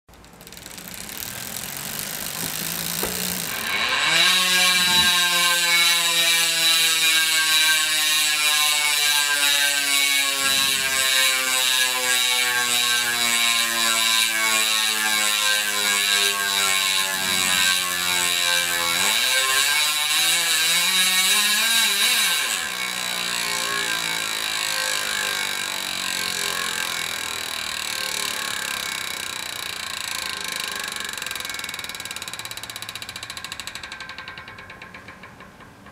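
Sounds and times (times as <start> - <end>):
bicycle hub ratchet buzzing: 0.1 - 35.9.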